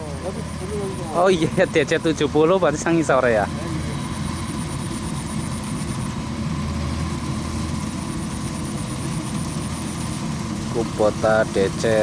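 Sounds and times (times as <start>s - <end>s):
combine harvester engine humming: 0.0s - 12.0s.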